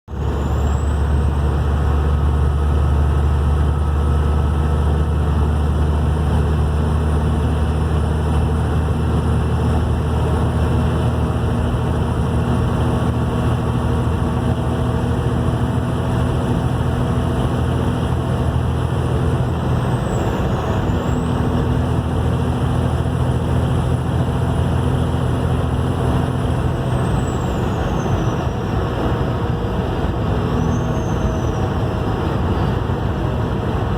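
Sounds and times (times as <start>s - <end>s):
engine low drone: 0.0s - 33.9s.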